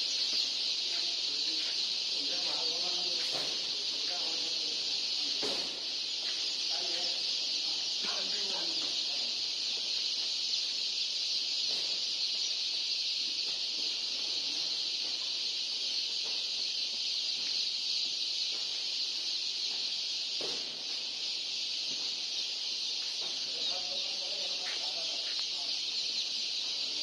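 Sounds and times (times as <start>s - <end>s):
chicks peeping: 0.0s - 27.0s.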